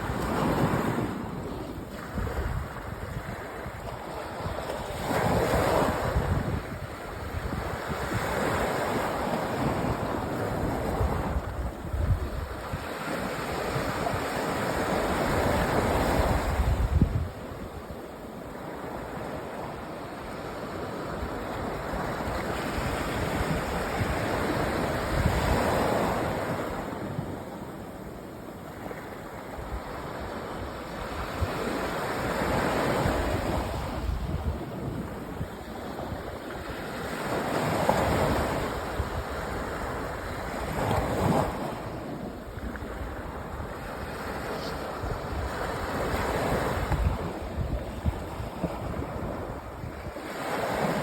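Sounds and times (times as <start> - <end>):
sea waves breaking on beach: 0.0 - 51.0.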